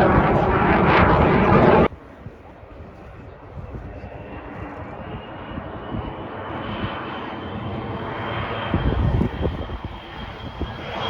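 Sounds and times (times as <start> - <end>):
aircraft engine whine: 0.0 - 11.0.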